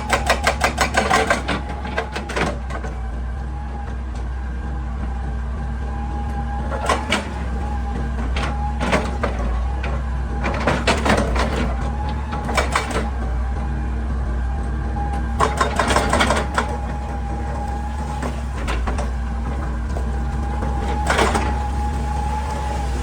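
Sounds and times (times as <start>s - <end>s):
excavator diesel engine: 0.0s - 23.0s.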